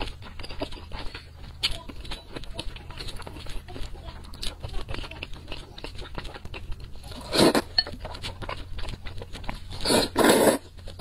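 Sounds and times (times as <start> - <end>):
close chewing of noodles: 0.0 - 11.0.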